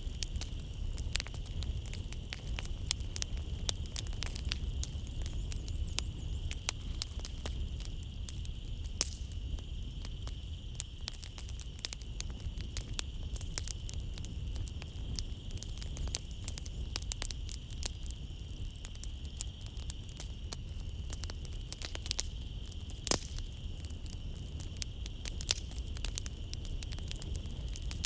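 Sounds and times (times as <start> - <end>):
crickets trilling: 0.0 - 28.0
wood fire crackling: 0.0 - 28.0.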